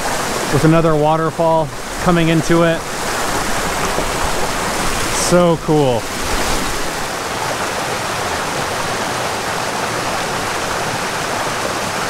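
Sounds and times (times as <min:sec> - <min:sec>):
water rushing over rocks: 0:00.0 - 0:12.0
waterfall pouring into pool: 0:00.0 - 0:12.0.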